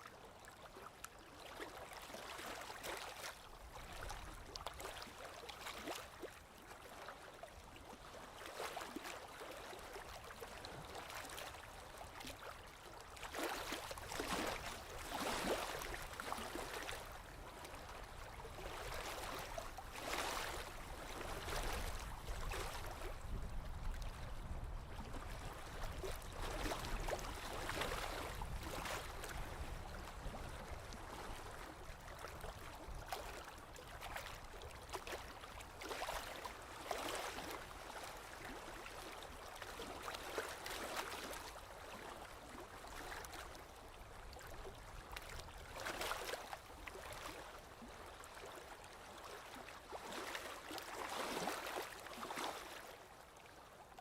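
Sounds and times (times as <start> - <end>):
lake waves lapping on shore: 0.3 - 53.8.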